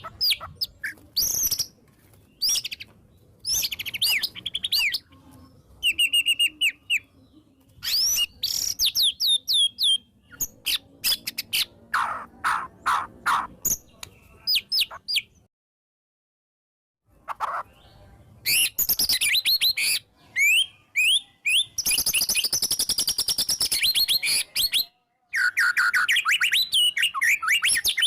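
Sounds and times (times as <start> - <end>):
songbird singing varied song: 0.0 - 15.5, 17.2 - 28.0.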